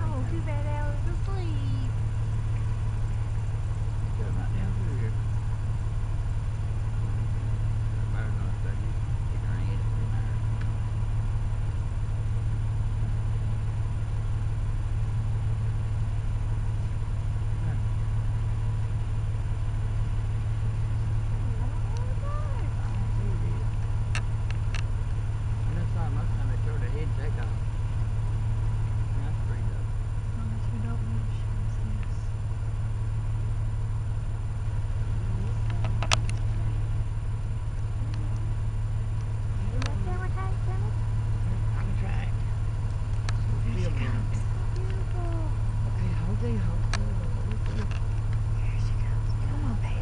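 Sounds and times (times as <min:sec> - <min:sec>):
vehicle engine idling: 0:00.0 - 0:50.0.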